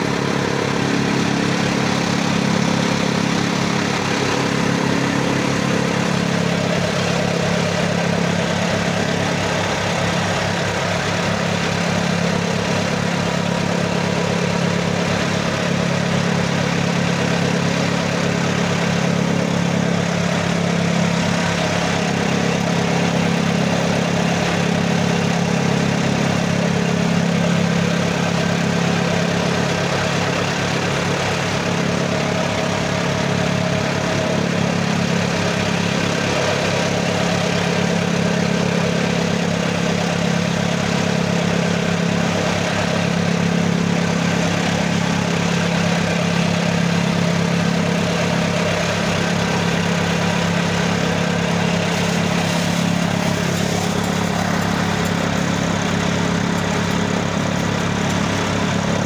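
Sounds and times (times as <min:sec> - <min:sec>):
chaff cutter running: 0:00.0 - 0:59.0.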